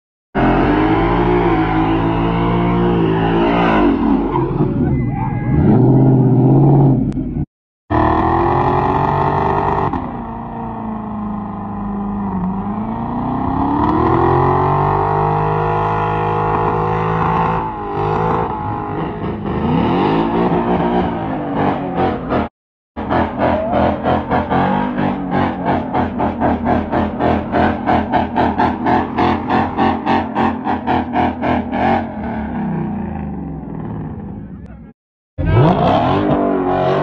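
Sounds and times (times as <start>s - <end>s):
car engines revving hard: 0.4s - 37.0s.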